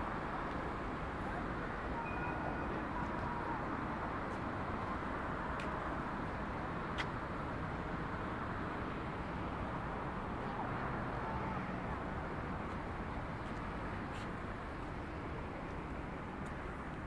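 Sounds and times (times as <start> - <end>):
distant city traffic hum: 0.0 - 17.0.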